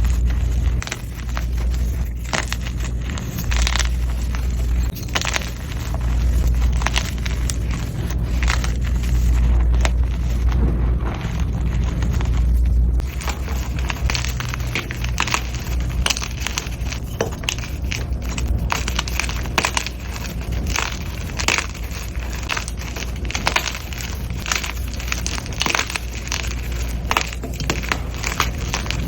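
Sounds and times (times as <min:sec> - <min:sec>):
chalk blocks being crushed: 0:00.0 - 0:29.0
steady low rumble: 0:00.0 - 0:29.0.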